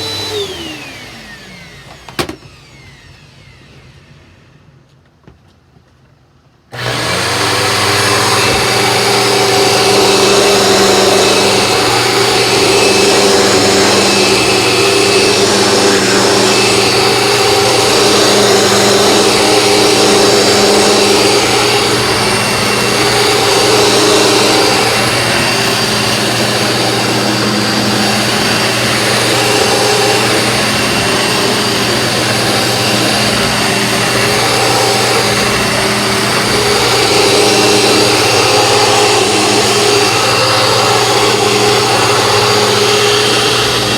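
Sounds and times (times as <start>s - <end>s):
vacuum cleaner running: 0.0s - 5.3s, 6.7s - 43.9s.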